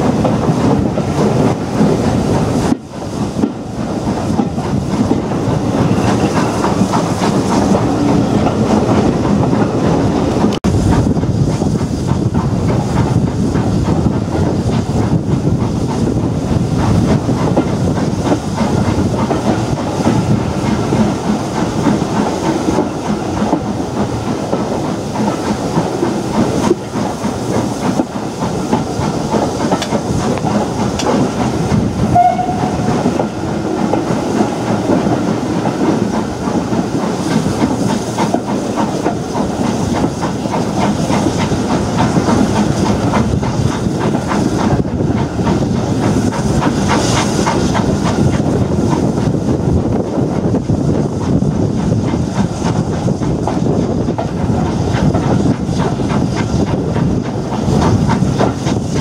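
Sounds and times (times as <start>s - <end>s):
steam locomotive exhaust and hiss: 0.0s - 59.0s
train wheels clattering on rails: 0.0s - 59.0s.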